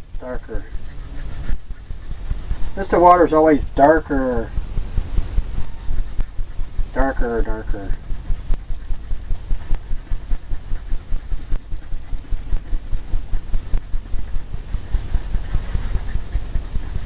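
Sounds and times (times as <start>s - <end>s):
paintbrush scrubbing on canvas: 0.0s - 17.0s.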